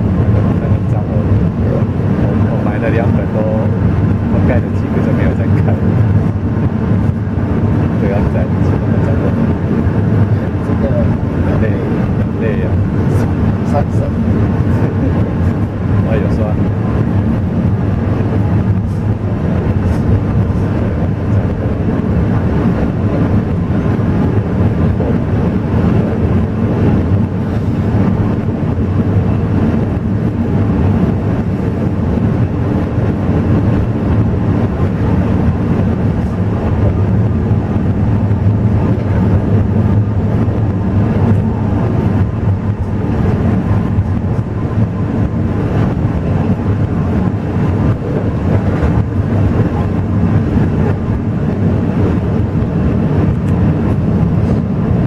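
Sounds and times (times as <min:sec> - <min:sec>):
faint hum: 0:00.0 - 0:55.0
train rumbling inside carriage: 0:00.0 - 0:55.0.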